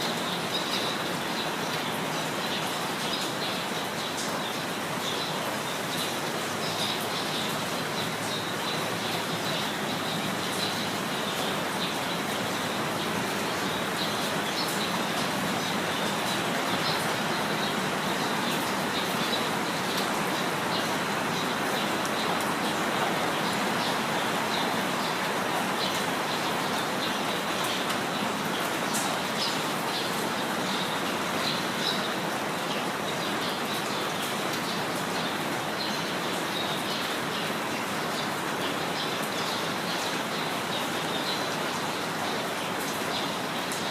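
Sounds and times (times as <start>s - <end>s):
steady rain falling: 0.0s - 43.9s
birds chirping: 0.2s - 43.6s.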